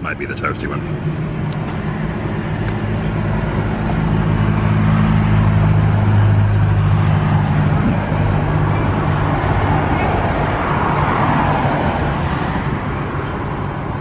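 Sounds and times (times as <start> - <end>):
street noise: 0.0 - 14.0
vehicle engine running: 0.0 - 14.0.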